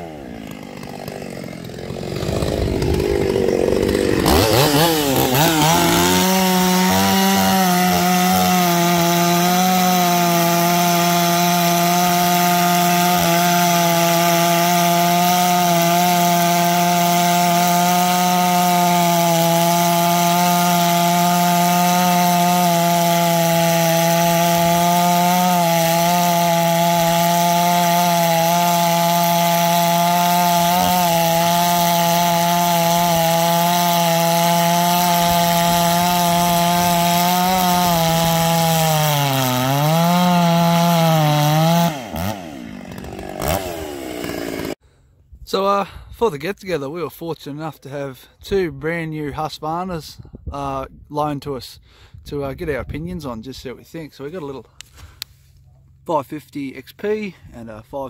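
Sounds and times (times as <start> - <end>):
chainsaw cutting wood: 0.0 - 44.9, 54.4 - 56.0.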